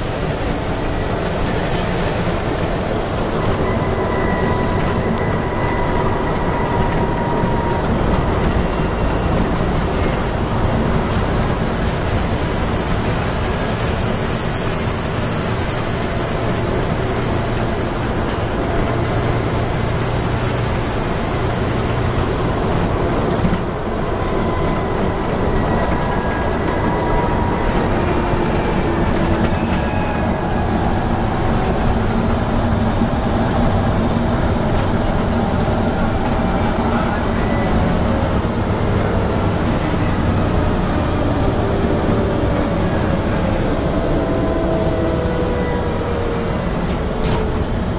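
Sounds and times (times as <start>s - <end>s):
bus diesel engine running: 0.0s - 47.9s
road and tyre noise: 0.0s - 47.9s.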